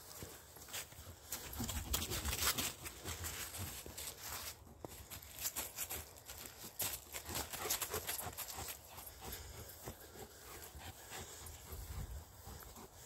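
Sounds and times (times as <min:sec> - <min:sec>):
footsteps crunching on path: 0:00.0 - 0:13.0.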